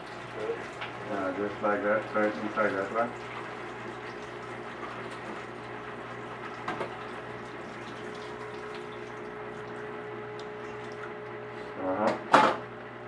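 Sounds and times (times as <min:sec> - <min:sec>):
tap water splashing into sink: 0:00.0 - 0:11.2.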